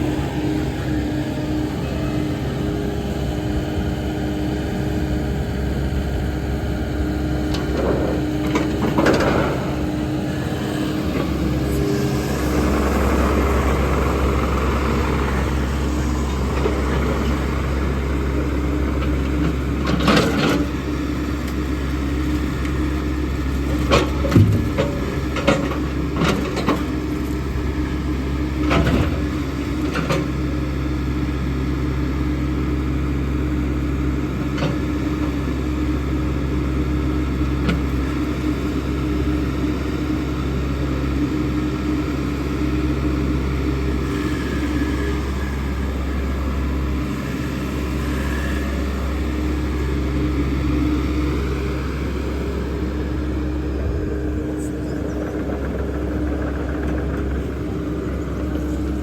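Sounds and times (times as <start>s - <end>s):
machine engine running under load: 0.0s - 59.0s.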